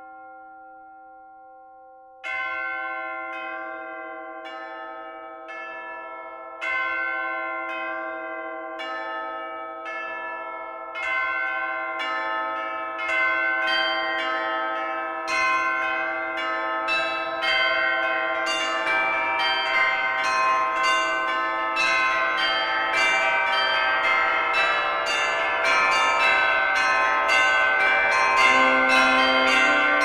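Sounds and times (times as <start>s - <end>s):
church bells pealing: 2.2s - 30.0s.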